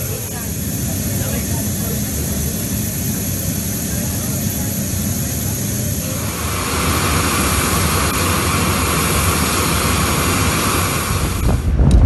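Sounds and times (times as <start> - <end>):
jet engine running: 0.0 - 12.0.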